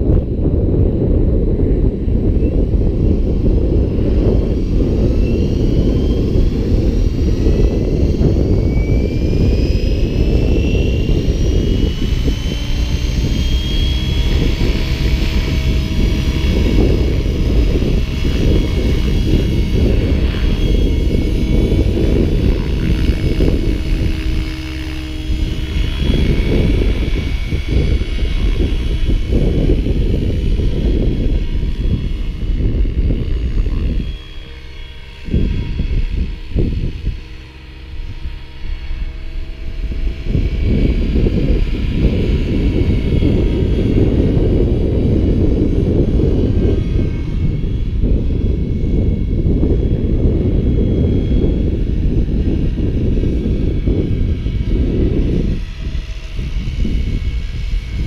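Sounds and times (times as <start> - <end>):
electric helicopter whine: 0.0 - 58.0
wind noise on microphone: 0.0 - 58.0.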